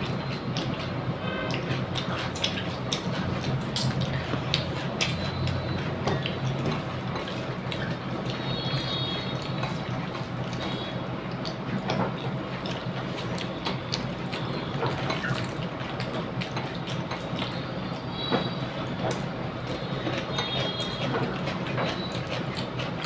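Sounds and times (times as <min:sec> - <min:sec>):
chewing smacks: 0:00.0 - 0:18.1, 0:18.8 - 0:23.0.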